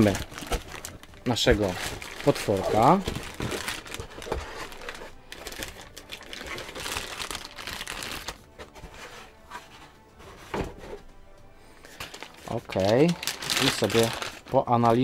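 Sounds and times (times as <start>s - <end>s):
plastic bag rustling and crinkling: 0.0s - 9.8s, 11.8s - 15.0s
background music: 0.0s - 15.0s.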